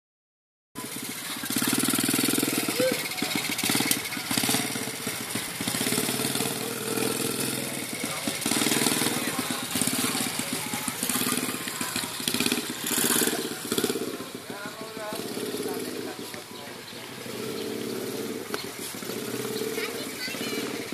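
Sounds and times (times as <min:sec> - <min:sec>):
quad bike engine running: 0:00.8 - 0:20.9.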